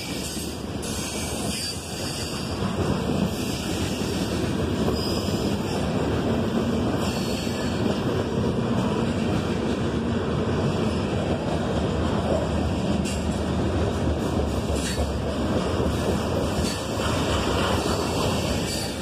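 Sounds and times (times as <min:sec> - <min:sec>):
freight train wheels rattling on track: 0:00.0 - 0:19.0.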